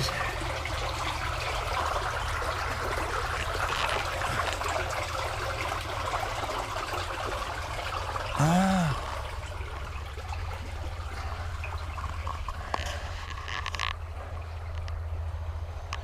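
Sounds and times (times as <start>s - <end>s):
water running: 0.0s - 14.4s.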